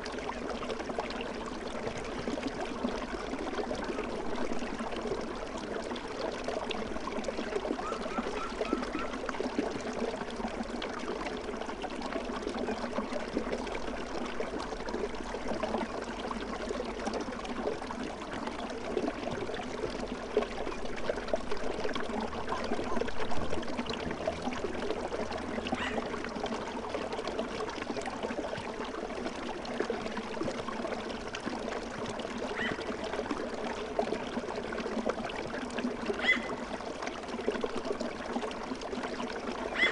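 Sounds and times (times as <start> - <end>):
babbling stream over stones: 0.0 - 39.9.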